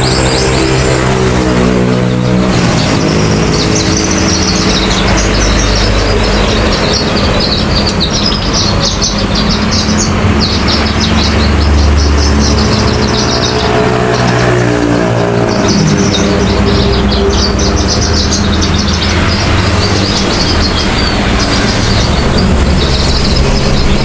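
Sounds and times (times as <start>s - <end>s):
bird singing high chirps: 0.0s - 24.0s
low traffic rumble: 0.0s - 24.0s
vehicle engine passing: 0.0s - 24.0s.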